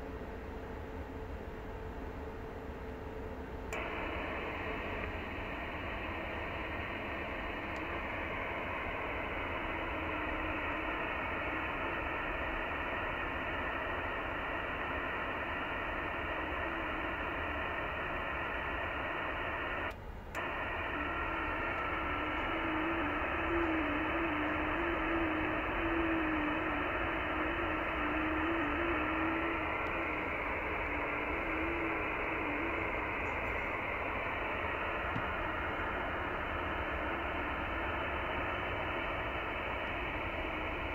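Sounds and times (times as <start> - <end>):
radio band noise hiss: 3.6 - 40.9
warbling digital radio signal: 3.8 - 40.9.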